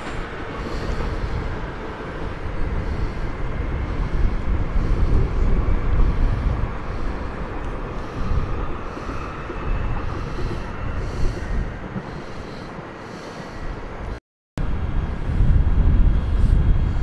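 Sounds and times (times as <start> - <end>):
wind buffeting the microphone: 0.0 - 12.9, 13.5 - 17.0
train rumbling: 0.0 - 17.0.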